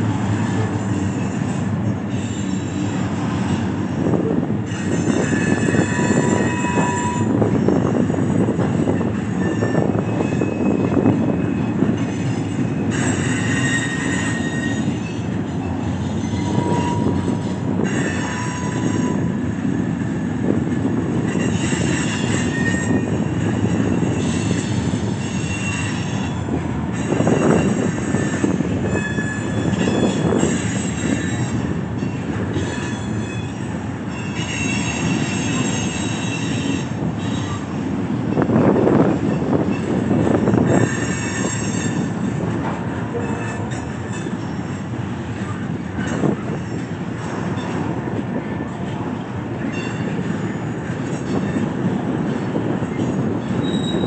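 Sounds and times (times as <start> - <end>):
train wheels rumbling on rail: 0.0 - 54.0
wheel flange squeals: 0.4 - 49.0, 49.6 - 54.0.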